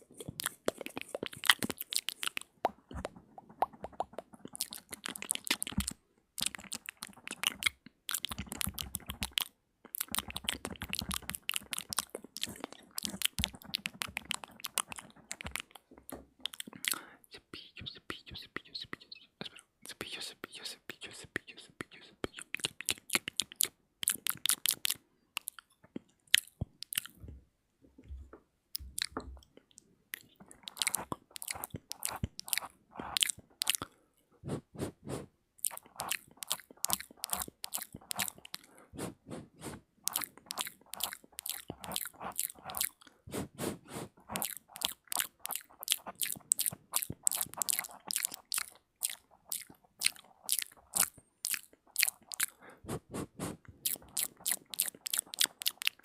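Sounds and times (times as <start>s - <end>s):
wet mouth clicks and lip smacking: 0.2s - 27.3s, 28.7s - 56.0s.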